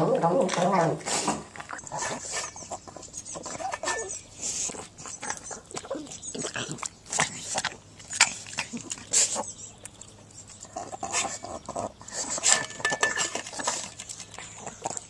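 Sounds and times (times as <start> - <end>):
dog eating with clicks and crunching: 0.0 - 15.0.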